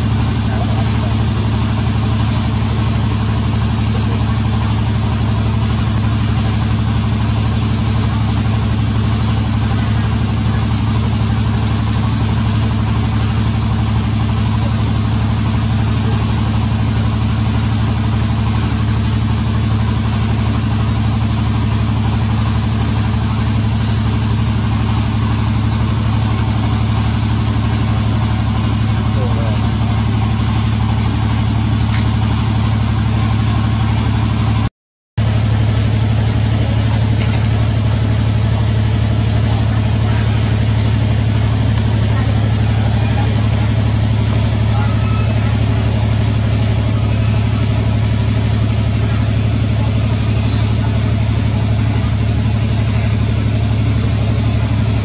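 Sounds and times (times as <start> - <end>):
low mechanical drone: 0.0 - 55.0.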